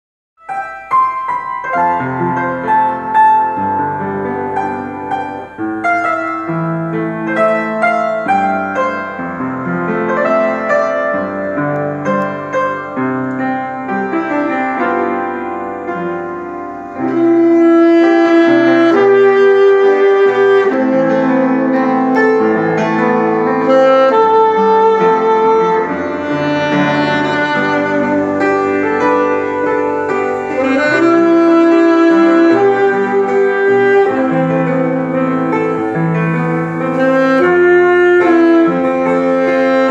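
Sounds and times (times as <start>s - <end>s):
upright piano playing: 0.4s - 39.9s
saxophone melody: 0.5s - 39.9s.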